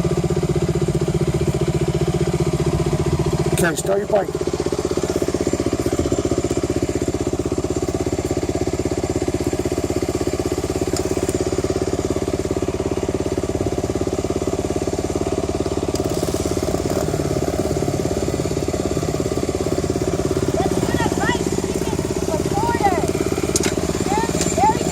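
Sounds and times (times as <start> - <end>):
dirt bike engine idling: 0.0 - 24.9.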